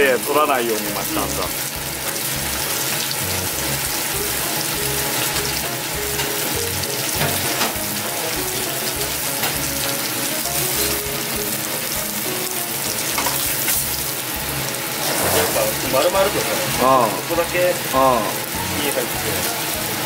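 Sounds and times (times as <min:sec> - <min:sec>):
fish frying in a pan: 0:00.0 - 0:20.0.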